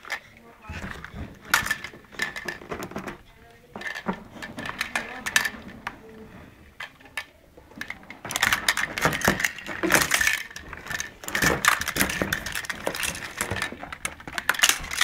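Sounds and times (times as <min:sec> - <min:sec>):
handling noise rustling and clicking: 0:00.0 - 0:15.0.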